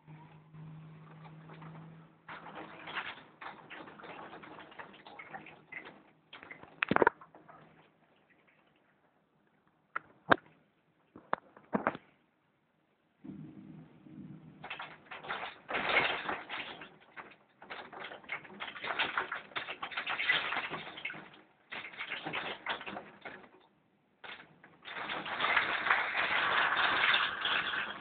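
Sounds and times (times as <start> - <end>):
rain pattering on balcony: 0.6 - 9.2, 13.3 - 28.0.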